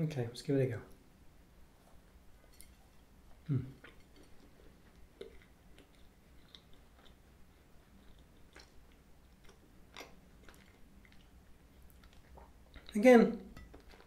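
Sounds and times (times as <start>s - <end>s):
faint chewing: 1.8s - 14.0s.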